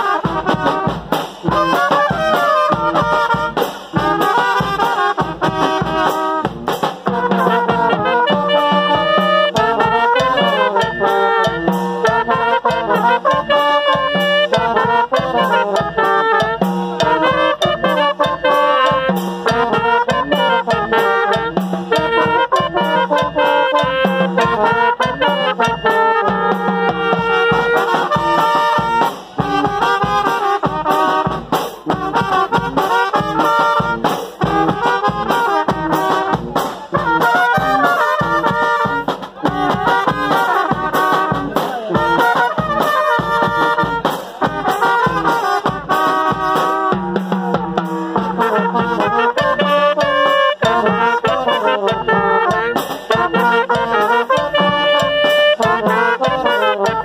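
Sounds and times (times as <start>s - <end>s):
horns playing a melody: 0.0s - 57.0s
steady drum beat: 0.0s - 57.0s.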